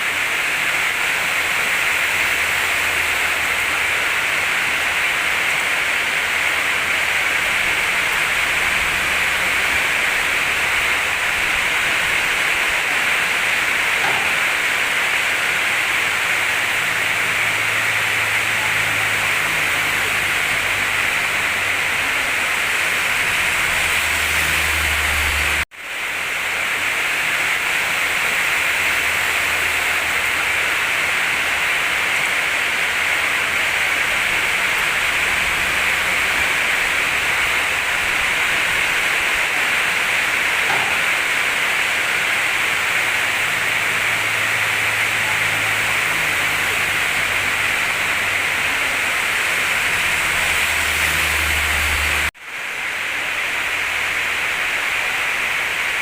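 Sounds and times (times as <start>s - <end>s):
faint diesel engine hum: 0.0s - 56.0s
fast-flowing river: 0.0s - 56.0s
heavy rain: 0.0s - 56.0s.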